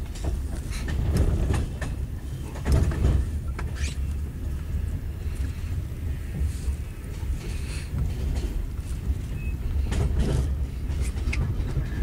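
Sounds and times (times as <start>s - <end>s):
train rumble: 0.0s - 12.0s
wheels clicking on track: 0.0s - 12.0s.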